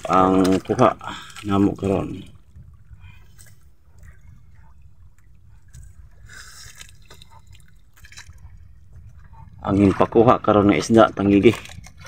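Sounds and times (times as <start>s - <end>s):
faint splashes and knocks: 0.0s - 12.0s
water lapping and trickling: 0.0s - 12.0s.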